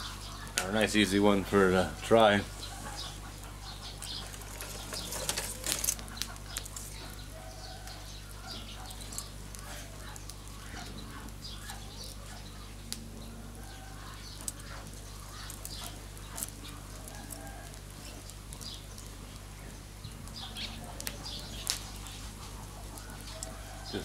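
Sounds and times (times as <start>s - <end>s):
birds chirping: 0.0s - 24.0s
steady low hum: 0.0s - 24.0s.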